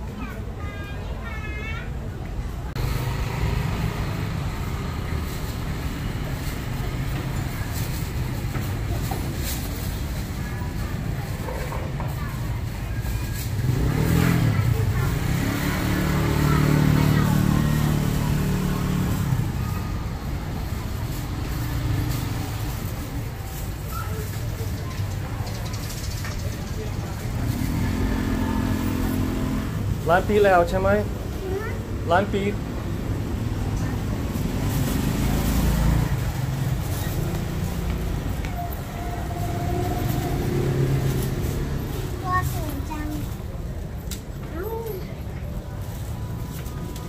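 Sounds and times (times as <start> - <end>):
street traffic noise: 0.0 - 47.0
vehicle engine running: 2.7 - 47.0.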